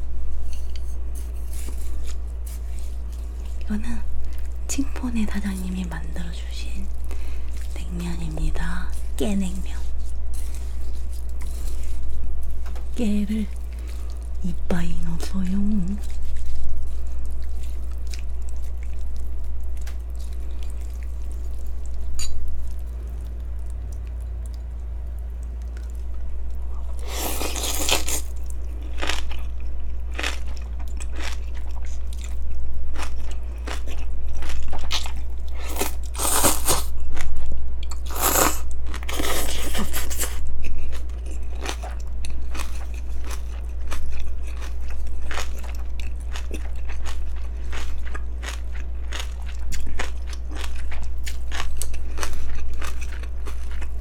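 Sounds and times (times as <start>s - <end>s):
steady low hum: 0.0s - 54.0s
crunching and wet chewing: 0.6s - 5.6s, 8.9s - 54.0s.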